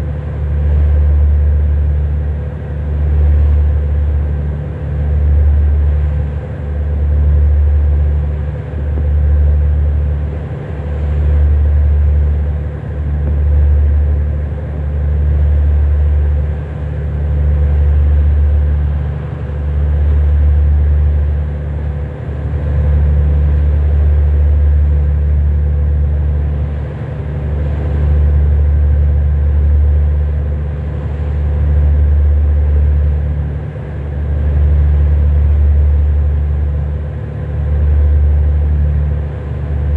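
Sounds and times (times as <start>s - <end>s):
deep engine rumble: 0.0s - 39.9s.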